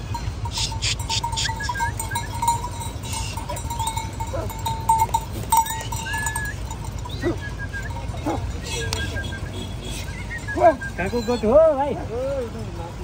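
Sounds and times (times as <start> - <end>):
goat bells tinkling: 0.0 - 13.0
low steady rumble: 0.0 - 13.0.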